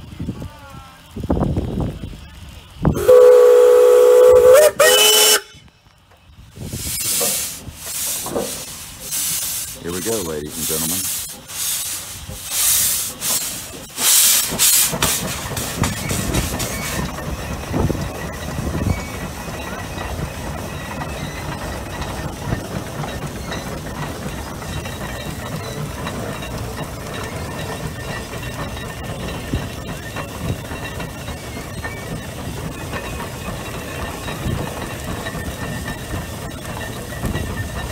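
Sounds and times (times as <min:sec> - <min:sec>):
steam engine low rumble: 0:00.0 - 0:37.9
steam engine hiss blasts: 0:06.5 - 0:37.9.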